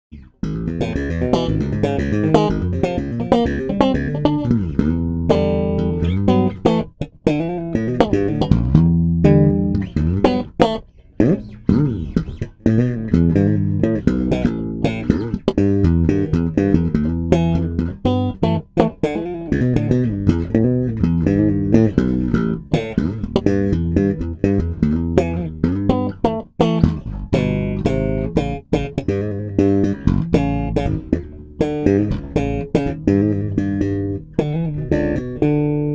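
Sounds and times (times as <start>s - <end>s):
electric bass guitar plucked: 0.1s - 35.9s.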